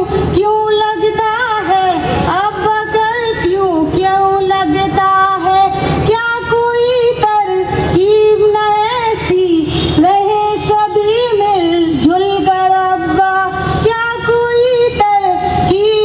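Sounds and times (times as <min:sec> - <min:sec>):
girl singing into a microphone: 0:00.0 - 0:16.0.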